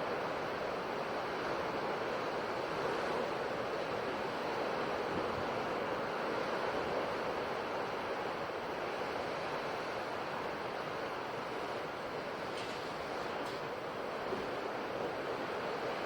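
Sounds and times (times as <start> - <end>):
ocean waves washing on shore: 0.0 - 16.0.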